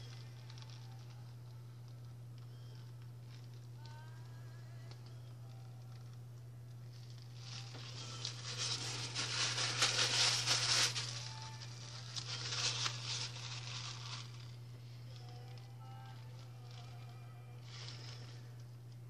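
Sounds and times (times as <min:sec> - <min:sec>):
crinkling and rustling: 0:00.0 - 0:06.2, 0:06.9 - 0:19.0
steady low hum: 0:00.0 - 0:19.0.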